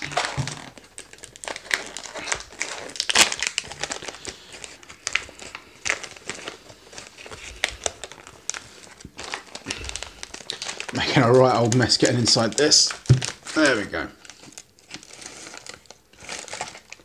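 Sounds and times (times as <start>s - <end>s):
foil pouch crinkling and tearing: 0.0s - 17.0s.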